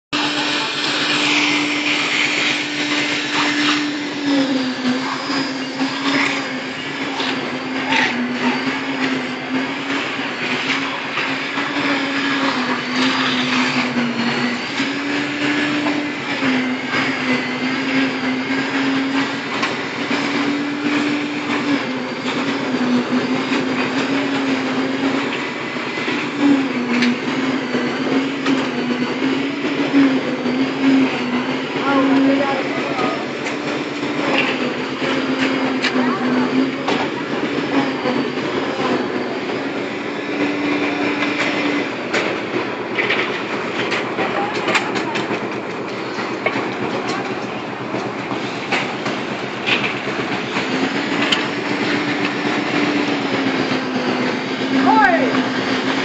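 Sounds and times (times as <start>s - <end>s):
machinery hum: 0.2s - 56.0s.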